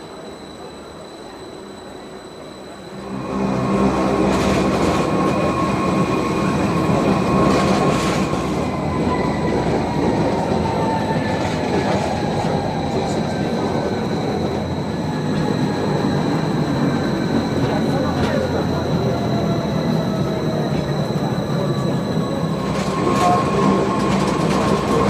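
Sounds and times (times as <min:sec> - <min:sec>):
train running: 0:00.0 - 0:25.0.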